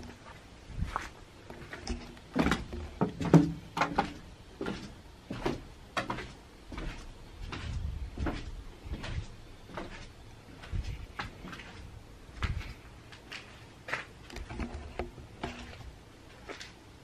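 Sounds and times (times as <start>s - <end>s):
footsteps: 0.0s - 16.8s.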